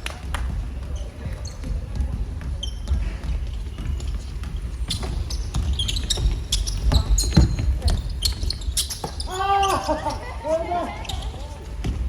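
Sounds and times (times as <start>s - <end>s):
basketball bouncing: 0.0s - 10.3s
shoe squeaks on court: 0.6s - 12.0s.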